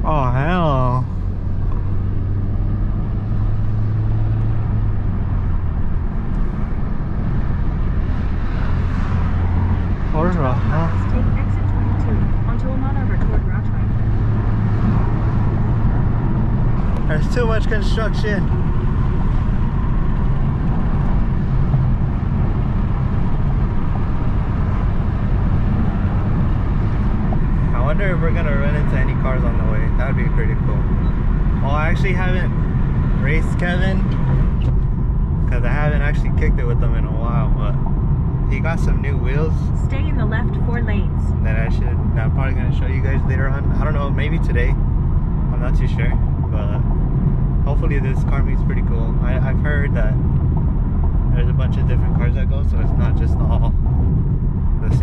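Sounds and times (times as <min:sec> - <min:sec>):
car road and engine noise: 0:00.0 - 0:55.0.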